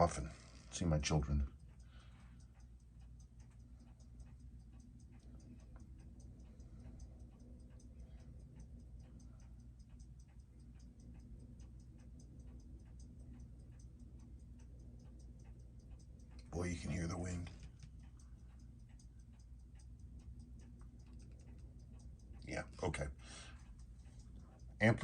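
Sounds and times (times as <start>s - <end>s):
steady low hum: 0.0s - 25.0s
watch ticking: 0.0s - 25.0s.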